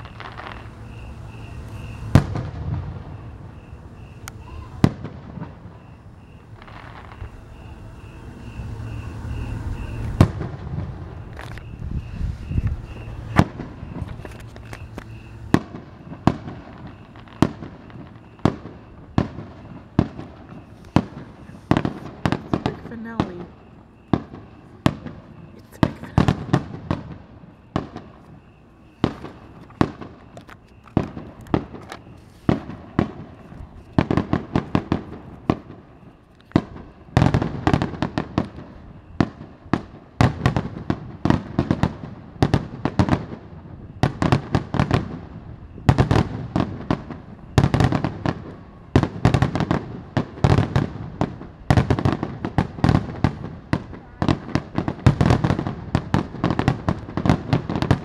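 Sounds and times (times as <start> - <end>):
fireworks bursting with sharp booms: 0.0 - 58.0.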